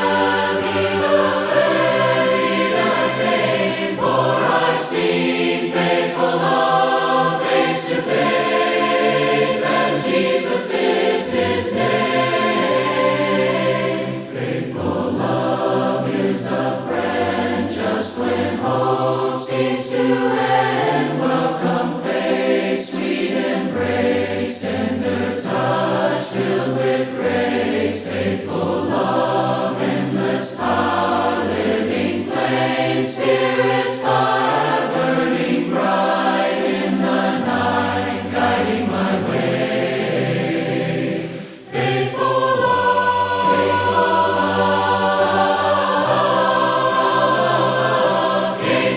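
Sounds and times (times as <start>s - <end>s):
choir singing a hymn: 0.0s - 48.9s.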